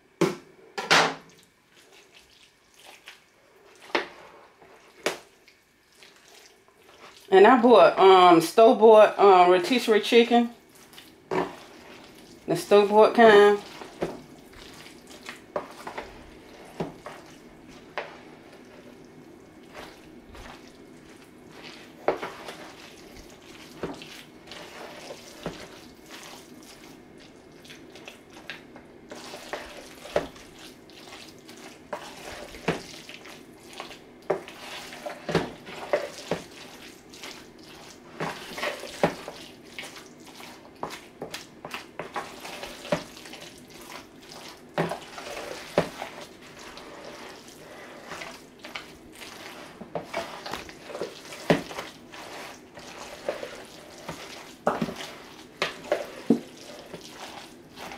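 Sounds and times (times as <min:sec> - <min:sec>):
wet squishing of chicken salad: 0:01.3 - 0:07.3, 0:10.6 - 0:12.5, 0:13.4 - 0:57.9.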